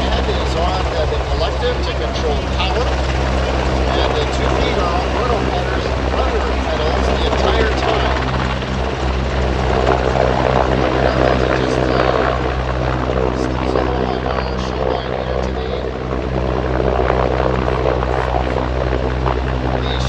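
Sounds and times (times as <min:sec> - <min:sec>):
helicopter rotors droning: 0:00.0 - 0:20.0.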